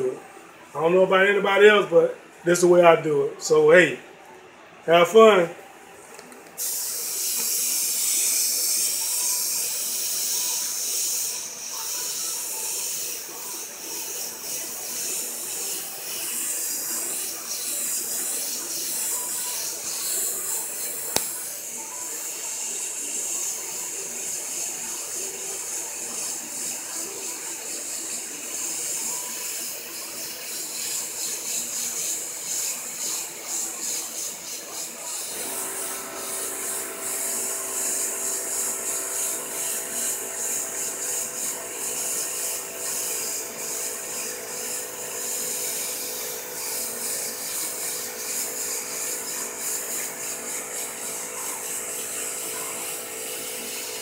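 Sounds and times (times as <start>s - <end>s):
mechanical hum: 0.0s - 54.0s
airbrush hissing: 6.6s - 54.0s.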